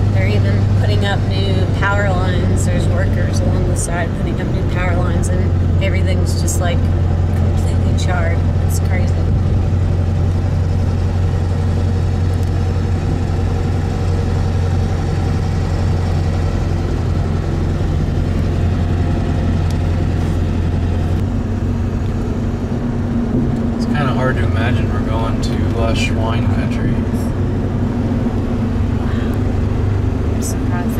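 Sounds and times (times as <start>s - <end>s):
truck engine drone: 0.0s - 30.9s.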